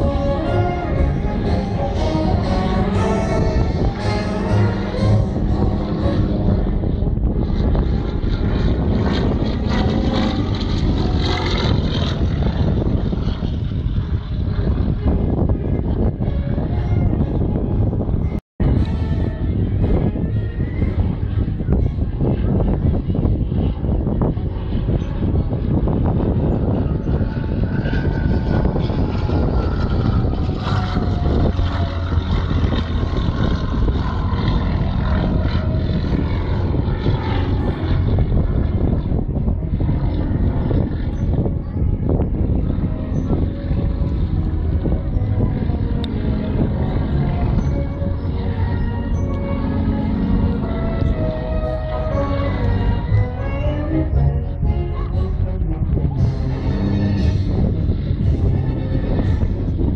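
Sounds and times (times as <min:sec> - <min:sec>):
small plane engine: 0:00.0 - 0:59.9.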